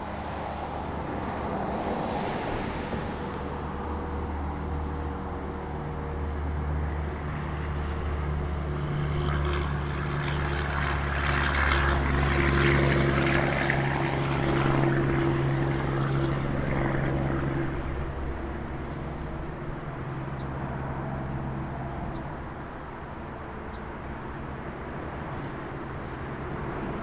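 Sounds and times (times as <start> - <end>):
droning engine passing by: 0.0 - 27.0.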